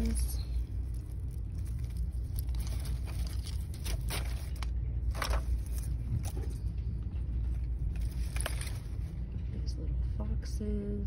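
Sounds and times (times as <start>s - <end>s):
artificial leaves rustling: 0.0s - 9.2s
low rumble: 0.0s - 11.0s.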